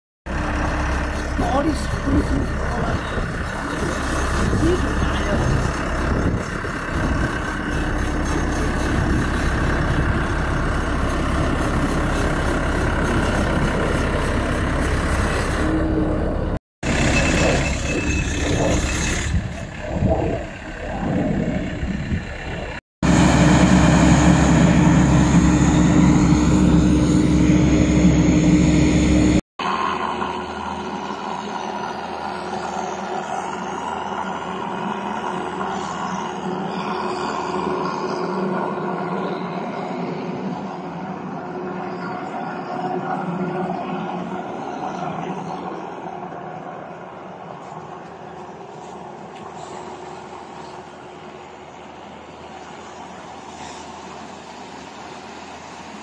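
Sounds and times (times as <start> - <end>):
diesel engine running: 0.3 - 56.0.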